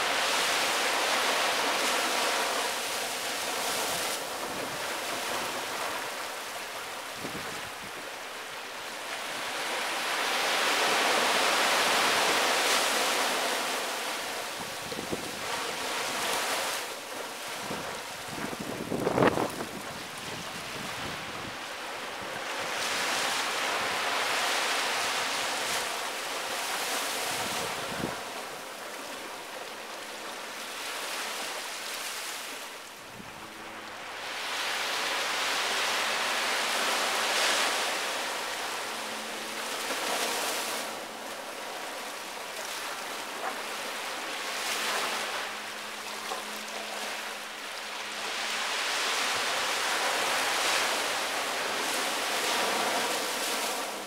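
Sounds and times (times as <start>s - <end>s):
small waves washing on beach: 0.0s - 54.0s.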